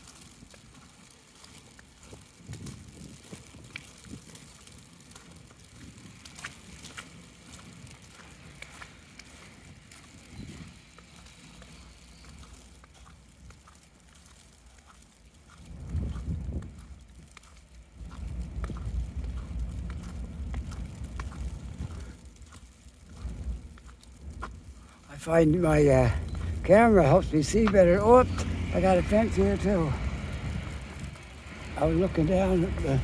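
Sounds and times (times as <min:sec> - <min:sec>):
footsteps on slushy ground: 0:00.0 - 0:33.0
wet snow ticking on umbrella: 0:00.0 - 0:33.0.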